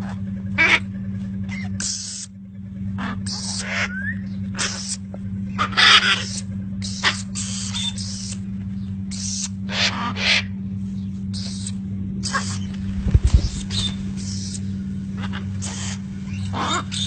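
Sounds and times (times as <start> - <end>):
birds screeching: 0.0 - 17.0
steady low hum: 0.0 - 17.0.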